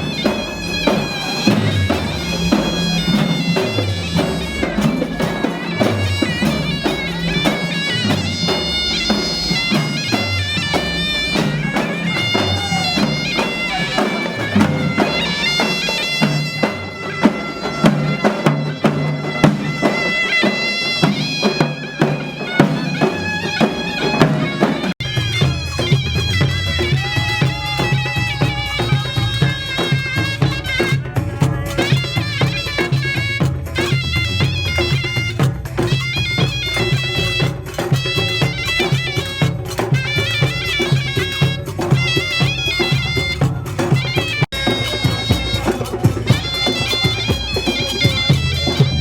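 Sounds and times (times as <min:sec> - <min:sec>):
drum beats: 0:00.0 - 0:49.0
reedy wind instrument melody: 0:00.0 - 0:49.0.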